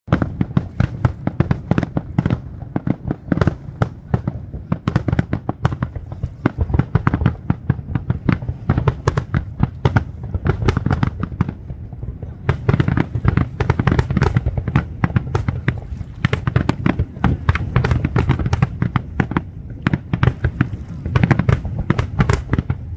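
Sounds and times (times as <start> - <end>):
fireworks bursts and bangs: 0.1 - 22.9
steady low rumble: 0.2 - 22.9.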